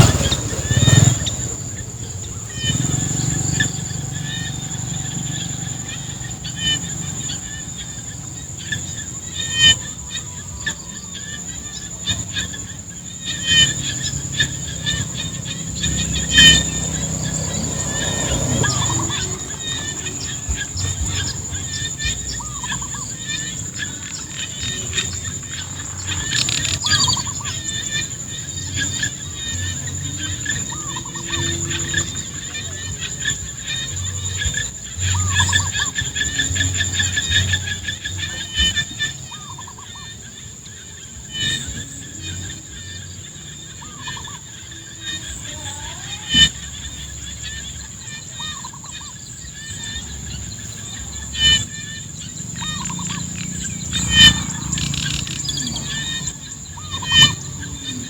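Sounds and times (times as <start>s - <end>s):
birds chirping: 0.0s - 58.0s
high-pitched insect drone: 0.0s - 58.0s.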